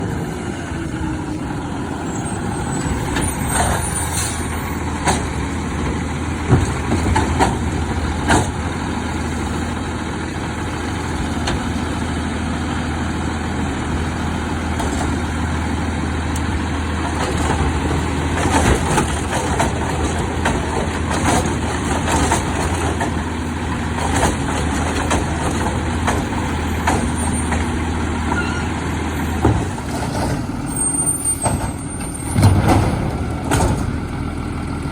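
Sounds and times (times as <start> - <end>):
garbage truck engine running: 0.0 - 34.9.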